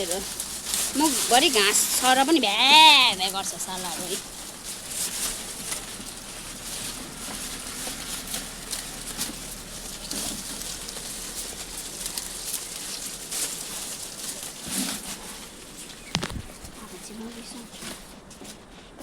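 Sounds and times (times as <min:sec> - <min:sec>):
goats crunching grass: 0:00.0 - 0:19.0.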